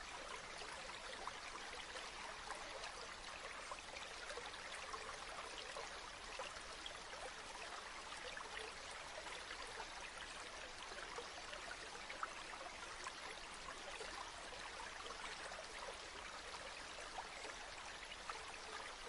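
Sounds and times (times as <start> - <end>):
river water babbling: 0.0 - 19.0.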